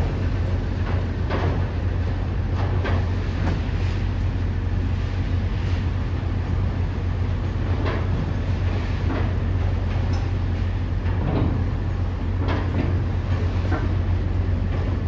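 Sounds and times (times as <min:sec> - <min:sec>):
heavy machinery engine rumble: 0:00.0 - 0:15.0.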